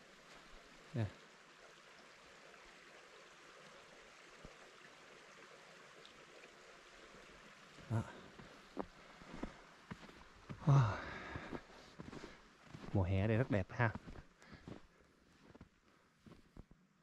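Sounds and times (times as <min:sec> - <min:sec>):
creek water rushing: 0:00.0 - 0:15.4.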